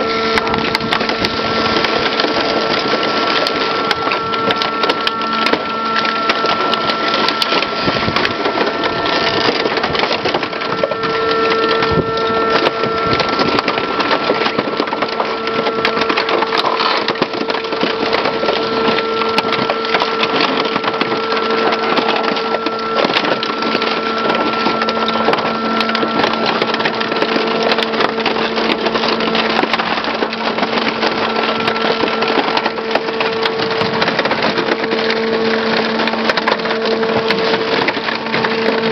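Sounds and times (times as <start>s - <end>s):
machine hum: 0.0s - 38.9s
metal crackling and crunching: 0.0s - 38.9s.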